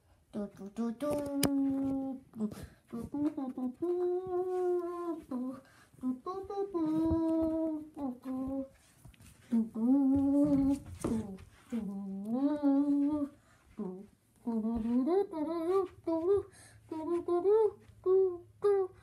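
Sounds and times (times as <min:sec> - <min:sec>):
person humming: 0:00.4 - 0:08.8, 0:09.5 - 0:19.0.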